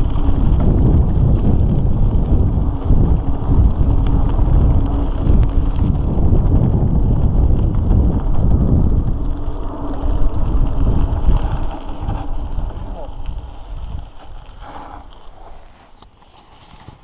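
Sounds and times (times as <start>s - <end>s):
wind buffeting microphone: 0.0s - 15.8s
tyres rolling over gravel: 0.0s - 17.0s.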